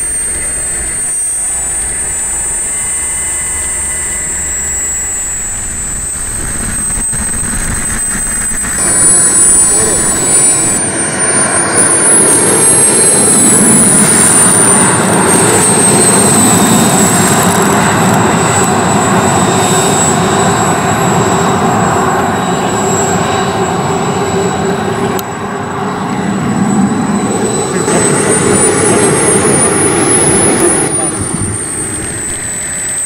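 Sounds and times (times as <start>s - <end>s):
jet engines with turbine whine: 0.0s - 33.0s.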